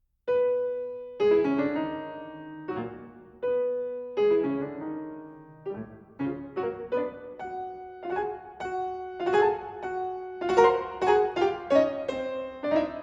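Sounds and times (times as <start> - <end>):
piano music: 0.3 - 13.0.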